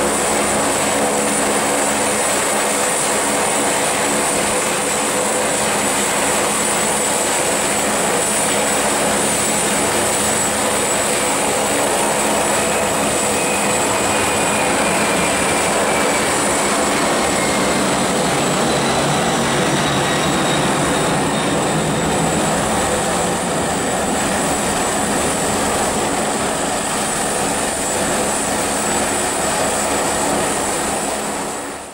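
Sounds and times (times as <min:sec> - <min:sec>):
jet engines whining: 0:00.0 - 0:31.8.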